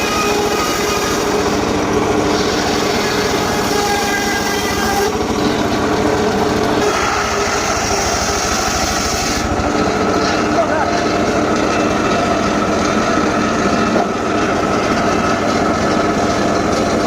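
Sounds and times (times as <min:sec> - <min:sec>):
small engine saw cutting wood: 0:00.0 - 0:17.0.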